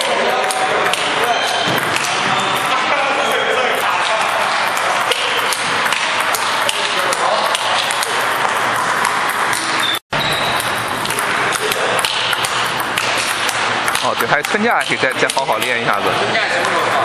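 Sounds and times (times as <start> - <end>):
table tennis ball clicks: 0.0 - 2.2, 4.0 - 15.9
busy hall din: 0.0 - 17.0.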